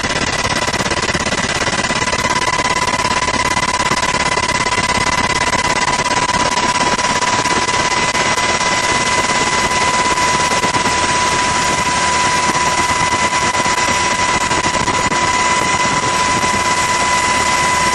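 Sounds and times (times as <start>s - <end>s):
helicopter engine and rotor: 0.0s - 17.9s.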